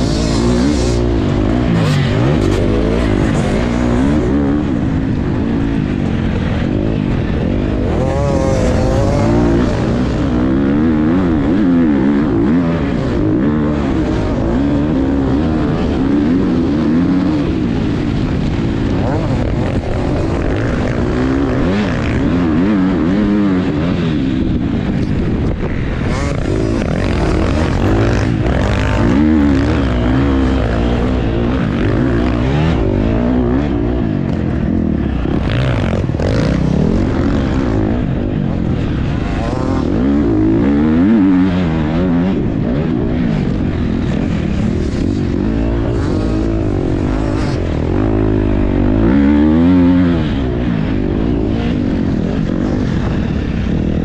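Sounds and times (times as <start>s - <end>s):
motocross engine revving: 0.0s - 53.7s.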